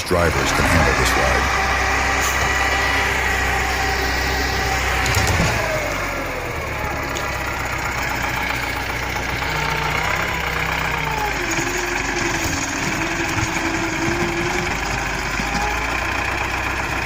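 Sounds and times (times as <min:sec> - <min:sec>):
truck engine under load: 0:00.0 - 0:17.0.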